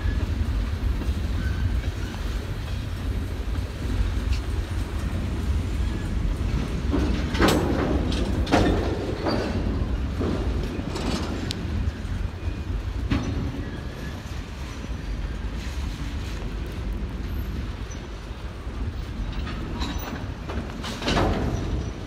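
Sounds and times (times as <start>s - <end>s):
freight train rolling: 0.0s - 22.0s
train cars clanking: 0.0s - 22.0s.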